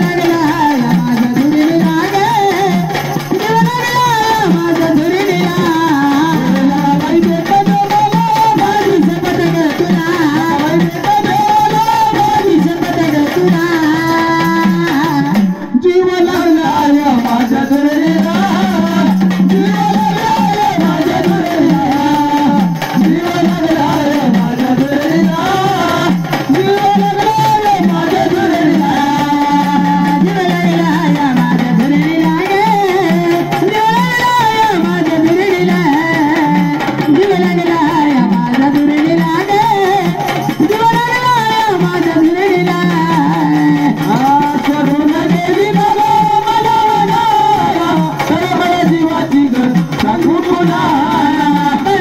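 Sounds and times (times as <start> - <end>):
hand drum rhythm: 0.0 - 52.0
person singing folk melody: 0.0 - 52.0.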